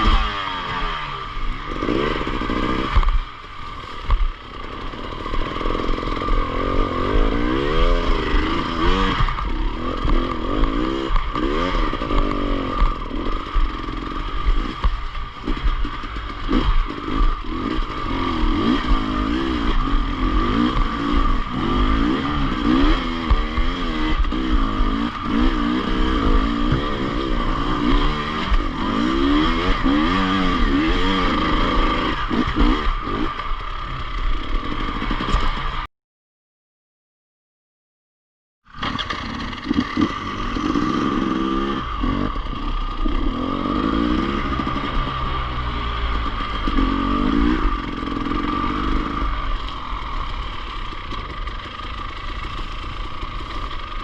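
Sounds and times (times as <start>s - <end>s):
motorcycle engine revving: 0.0s - 35.9s, 38.7s - 54.0s.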